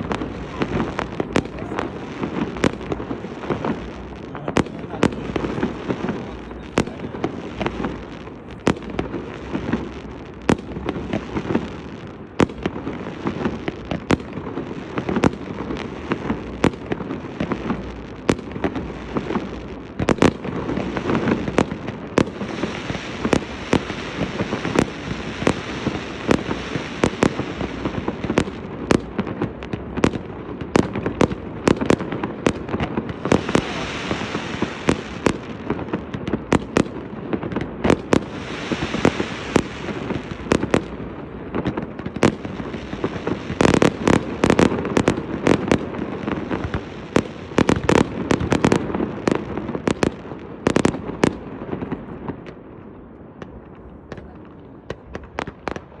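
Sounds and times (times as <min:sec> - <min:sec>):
fireworks bursting bangs: 0:00.0 - 0:56.0
fireworks crackling: 0:00.0 - 0:56.0.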